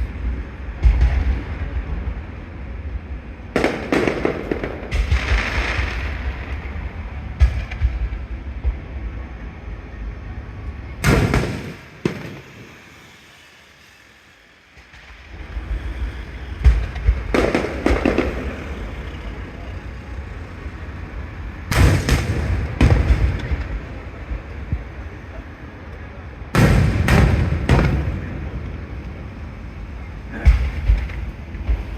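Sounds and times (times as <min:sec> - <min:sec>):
fireworks bursting: 0:00.0 - 0:09.9, 0:10.8 - 0:31.9.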